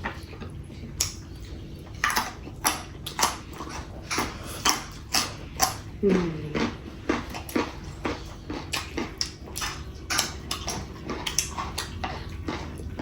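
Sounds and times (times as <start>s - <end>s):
person chewing with mouth smacks: 0.0s - 13.0s.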